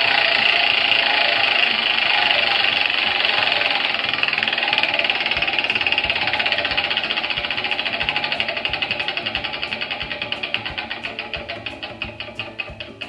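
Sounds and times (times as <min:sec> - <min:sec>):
prize wheel ticking: 0:00.0 - 0:13.0.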